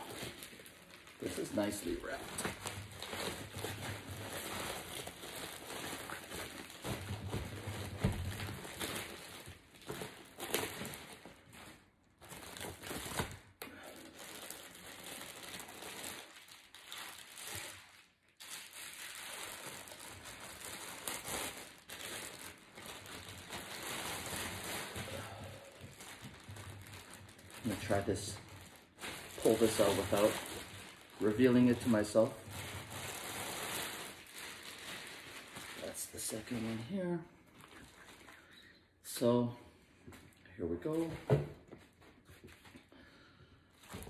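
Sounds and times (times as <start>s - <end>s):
bubble wrap crinkling: 0.0s - 39.3s, 41.6s - 44.0s.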